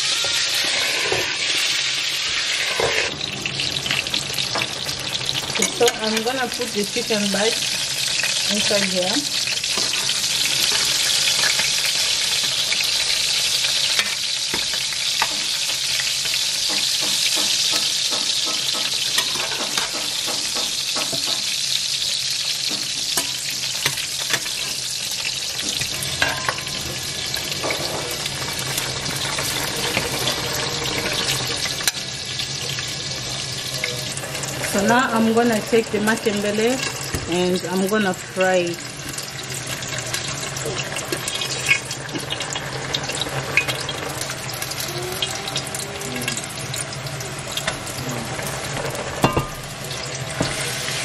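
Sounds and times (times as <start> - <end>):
chicken sizzling in hot oil: 0.0 - 51.0.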